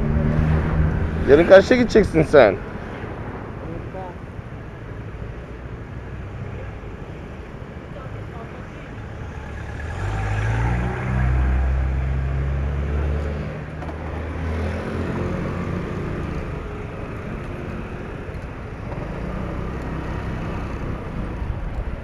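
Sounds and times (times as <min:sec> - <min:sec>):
motorcycle engine hum: 0:00.0 - 0:22.0
road noise: 0:00.0 - 0:22.0.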